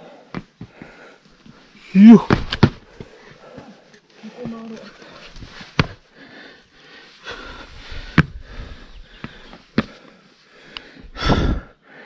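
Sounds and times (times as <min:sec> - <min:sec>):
person breathing hard: 0:00.0 - 0:01.9, 0:02.7 - 0:04.0, 0:04.9 - 0:12.0.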